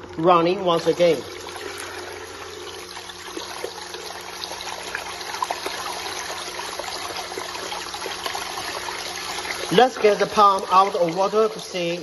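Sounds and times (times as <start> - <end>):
faint pump hum: 0.0 - 12.0
water trickling and splashing: 0.0 - 12.0.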